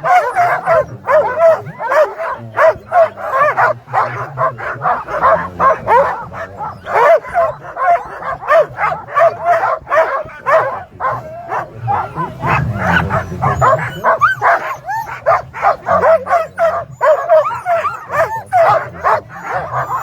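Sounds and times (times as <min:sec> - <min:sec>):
sled dogs barking and yipping: 0:00.0 - 0:20.0.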